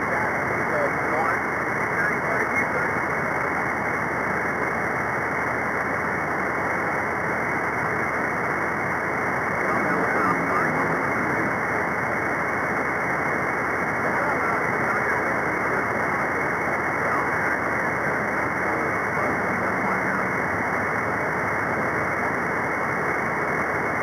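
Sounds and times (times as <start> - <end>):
faint radio voices: 0.0 - 5.0, 5.7 - 24.0
muffled radio static: 0.0 - 24.0.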